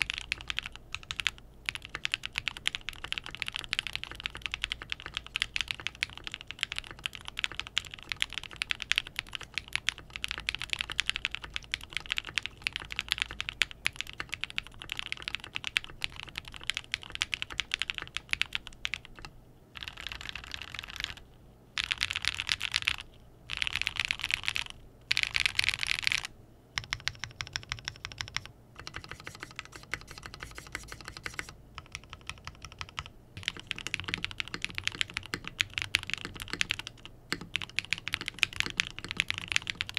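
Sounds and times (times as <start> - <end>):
mechanical keyboard typing: 0.0 - 21.2, 21.8 - 39.9.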